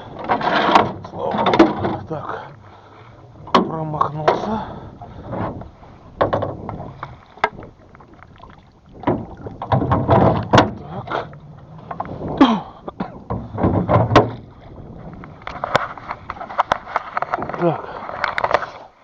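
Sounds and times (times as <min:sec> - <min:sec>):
oars knocking against oarlocks: 0:00.0 - 0:19.0.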